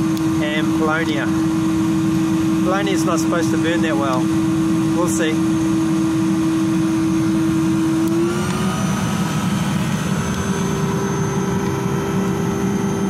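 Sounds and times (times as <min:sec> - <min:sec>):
electric blower humming: 0:00.0 - 0:13.0.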